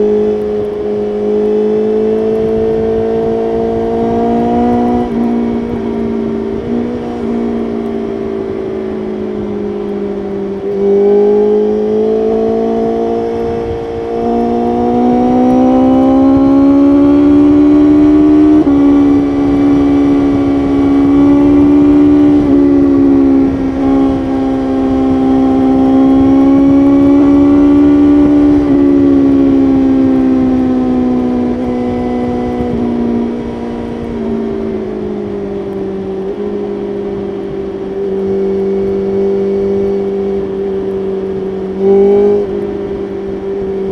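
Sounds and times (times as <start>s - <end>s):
motorcycle engine under load: 0.0s - 43.9s
wind rush: 2.2s - 43.9s.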